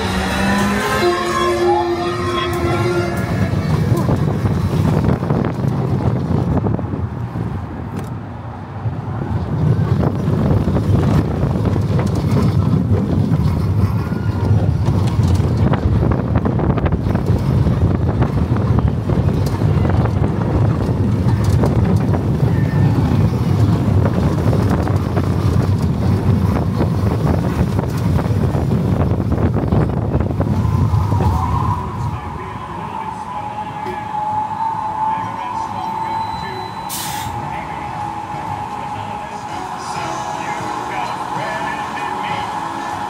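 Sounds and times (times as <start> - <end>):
wind buffeting microphone: 0.0 - 35.1
roller coaster rumbling on track: 0.0 - 43.0.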